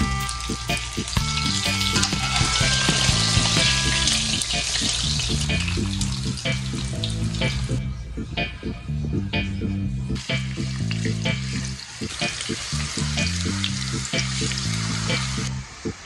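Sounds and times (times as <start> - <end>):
oil sizzling and crackling: 0.0 - 7.8, 10.2 - 16.0
background music: 0.0 - 16.0.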